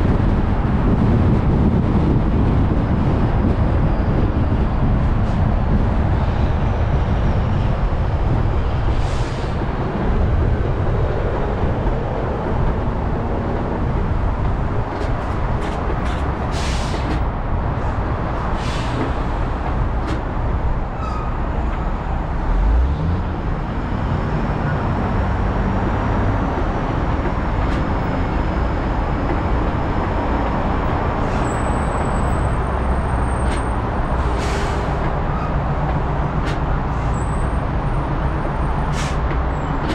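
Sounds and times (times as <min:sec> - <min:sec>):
car tyre roar and engine hum: 0:00.0 - 0:39.9.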